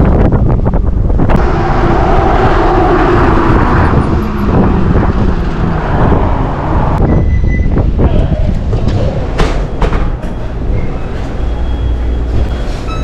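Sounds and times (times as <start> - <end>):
wind buffeting microphone: 0.0 - 11.4
road noise: 0.0 - 13.0.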